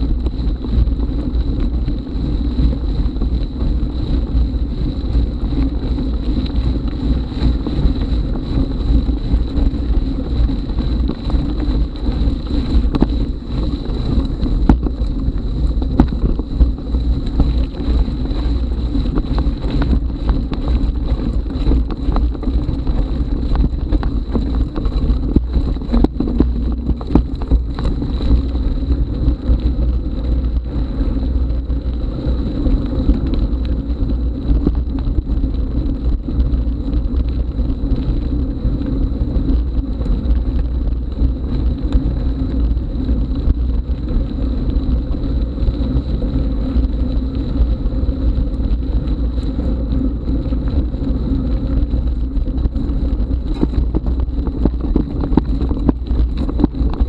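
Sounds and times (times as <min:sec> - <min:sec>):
bike rattling: 0:00.0 - 0:57.0
wind buffeting microphone: 0:00.0 - 0:57.0.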